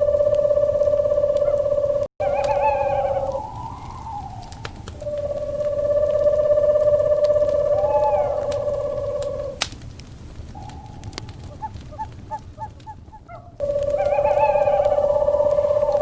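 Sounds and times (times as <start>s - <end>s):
owl trilling and hooting: 0.0s - 9.7s, 10.5s - 16.0s
crackling wood fire: 0.0s - 16.0s.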